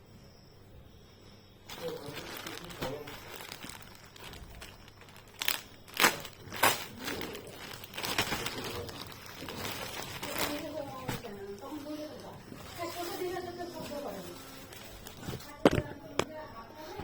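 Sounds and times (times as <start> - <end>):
packaging rustling and crinkling: 1.7 - 16.2.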